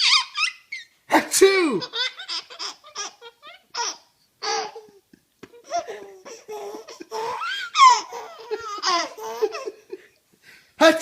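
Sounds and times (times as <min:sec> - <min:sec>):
baby giggling: 0:00.0 - 0:10.1.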